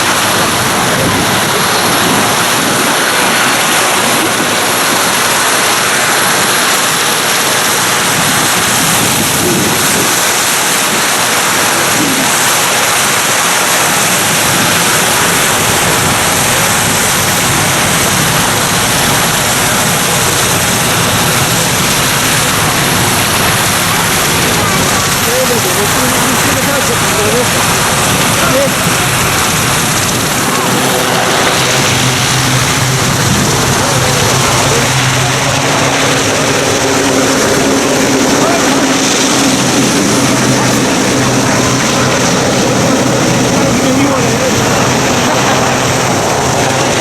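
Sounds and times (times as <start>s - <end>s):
deep rumble: 0.0s - 47.0s
helicopter rotor and turbine rush: 0.0s - 47.0s.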